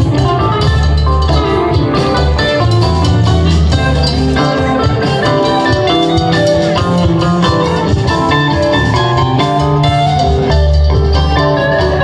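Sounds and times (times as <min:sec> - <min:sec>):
live rock band through pa: 0:00.0 - 0:12.0.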